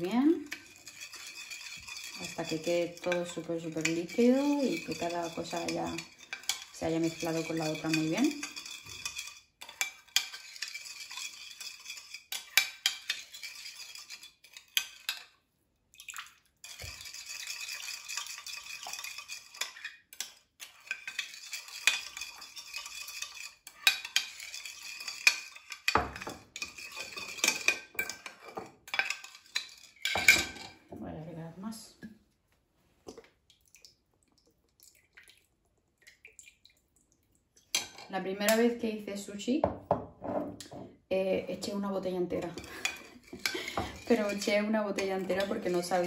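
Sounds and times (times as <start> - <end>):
spoon stirring in ceramic bowl: 0.0 - 31.0, 37.6 - 38.8, 39.6 - 46.0.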